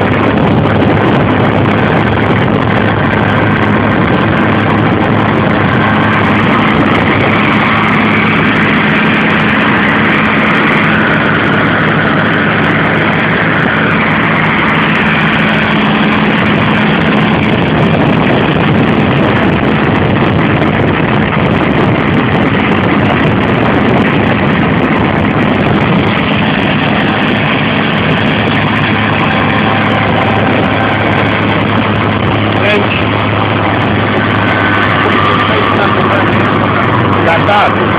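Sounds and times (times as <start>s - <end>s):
rotor churning through soil: 0.0s - 37.9s
tractor engine running under load: 0.0s - 37.9s.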